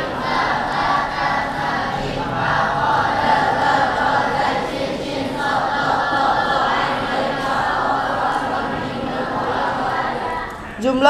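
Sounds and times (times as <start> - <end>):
students chanting in unison: 0.0 - 11.0.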